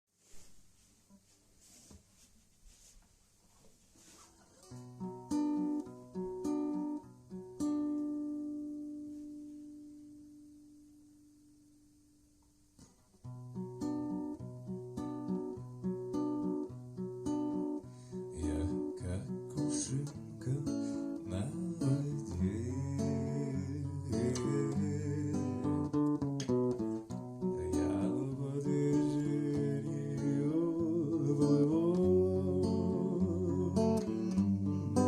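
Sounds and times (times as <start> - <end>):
acoustic guitar strumming: 4.6 - 11.3, 13.2 - 35.0.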